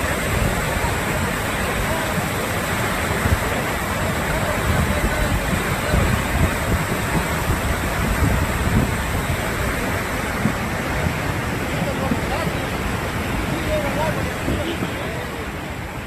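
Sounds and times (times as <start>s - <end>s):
flooded river rushing: 0.0s - 16.0s
wind buffeting microphone: 0.0s - 16.0s.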